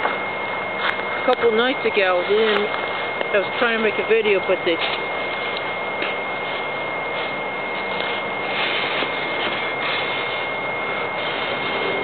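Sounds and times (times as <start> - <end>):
camp stove burning: 0.0 - 12.0
fan high whine: 0.0 - 12.0.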